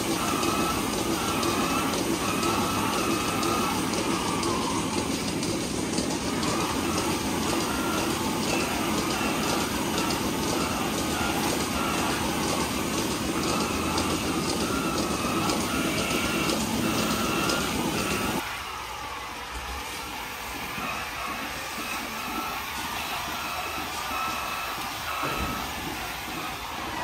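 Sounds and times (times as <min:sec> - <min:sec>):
milking machine hissing: 0:00.0 - 0:27.0.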